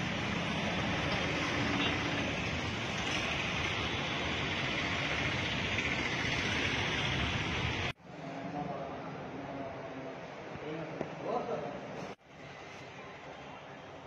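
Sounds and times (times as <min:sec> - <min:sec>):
street ambience hiss: 0:00.0 - 0:14.0.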